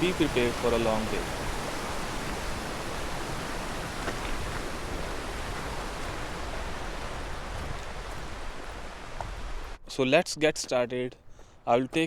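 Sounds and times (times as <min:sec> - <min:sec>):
steady rushing noise: 0:00.0 - 0:09.8.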